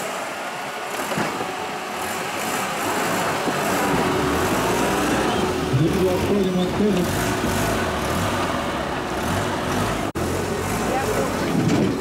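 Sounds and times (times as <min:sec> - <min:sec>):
vehicle engine pulling under load: 0:00.0 - 0:12.0.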